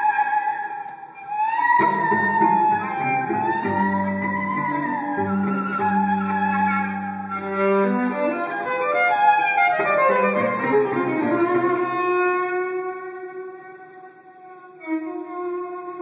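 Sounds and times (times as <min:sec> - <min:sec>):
bowed violin melody: 0:00.0 - 0:16.0.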